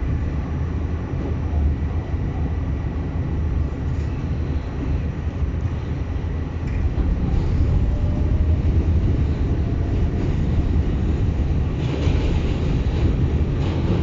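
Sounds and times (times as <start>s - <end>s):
subway train rumbling on track: 0.0s - 14.0s.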